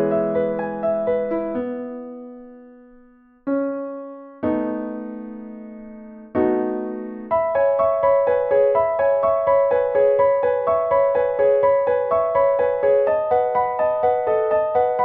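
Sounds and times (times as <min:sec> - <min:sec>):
solo piano prelude: 0:00.0 - 0:15.0.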